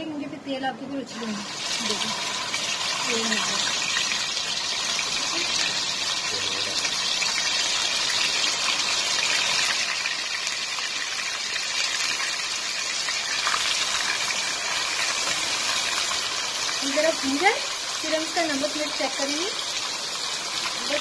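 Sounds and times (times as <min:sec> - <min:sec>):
meat sizzling in hot oil: 0:01.0 - 0:21.0.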